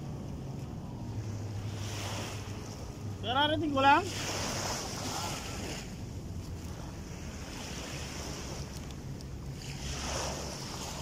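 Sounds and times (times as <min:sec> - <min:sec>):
small waves washing on sand: 0:00.0 - 0:11.0
wind rumbling on microphone: 0:00.0 - 0:11.0.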